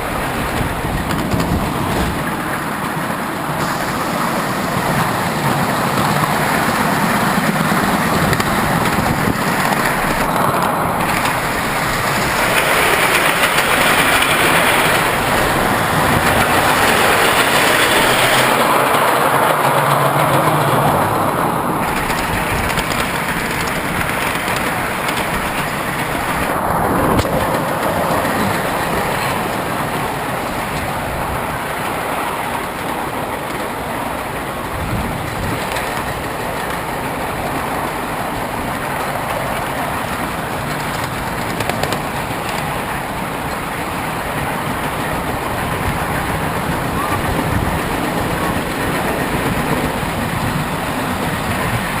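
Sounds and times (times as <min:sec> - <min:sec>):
train wheels rattling on rails: 0:00.0 - 0:52.0.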